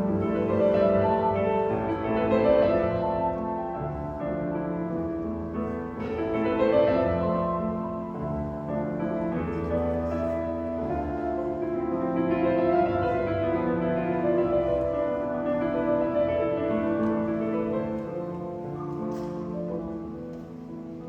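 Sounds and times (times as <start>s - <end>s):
cello: 0.0s - 21.0s
piano: 0.0s - 21.0s.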